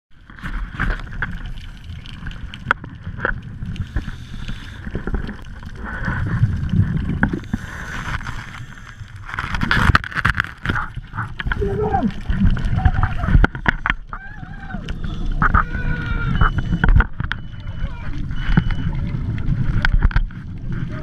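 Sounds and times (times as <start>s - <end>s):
muffled underwater rushing water: 0.2s - 21.0s.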